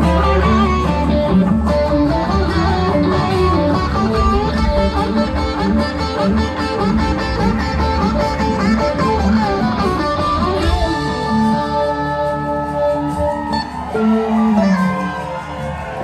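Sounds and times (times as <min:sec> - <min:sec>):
bass guitar: 0:00.0 - 0:16.0
drums: 0:00.0 - 0:16.0
electric guitars: 0:00.0 - 0:16.0.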